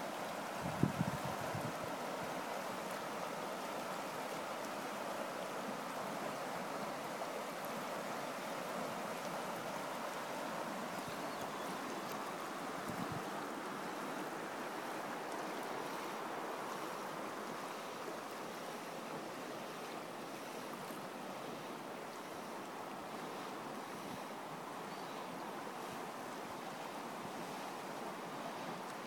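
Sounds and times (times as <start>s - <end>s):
river rushing over rapids: 0.0s - 29.0s.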